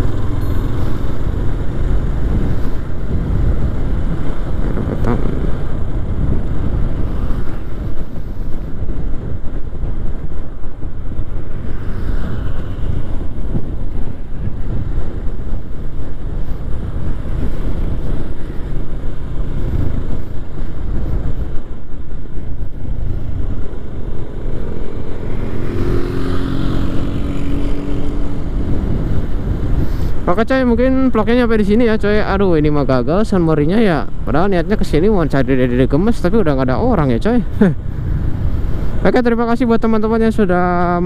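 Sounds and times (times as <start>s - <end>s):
motorcycle engine cruising: 0.0s - 39.1s
wind rushing over microphone: 0.0s - 41.0s.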